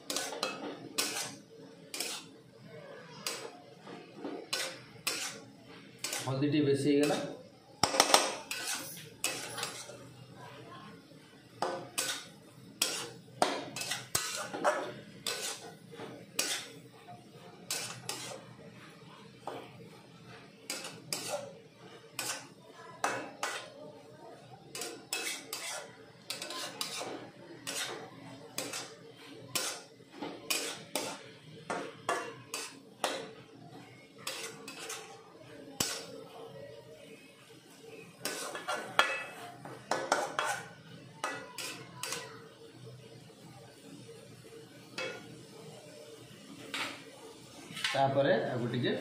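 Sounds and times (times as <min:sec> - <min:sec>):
metal spatula scraping a pan: 0:00.0 - 0:10.2, 0:11.5 - 0:23.8, 0:24.4 - 0:36.4, 0:37.9 - 0:42.3, 0:44.9 - 0:45.3, 0:46.6 - 0:47.0.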